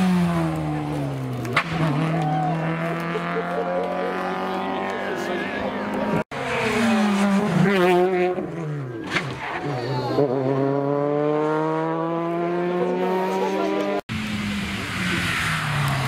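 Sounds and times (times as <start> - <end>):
rally car engine accelerating: 0.0 - 16.0
rally car engine approaching: 0.0 - 16.0.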